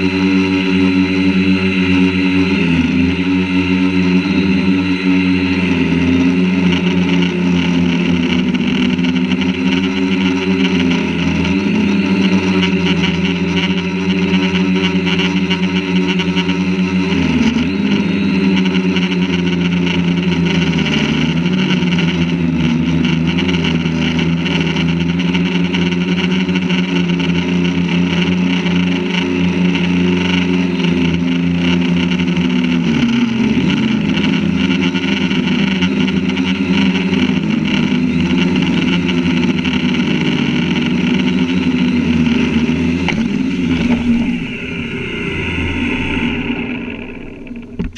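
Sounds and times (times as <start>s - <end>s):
drone propellers buzzing: 0.0s - 47.9s.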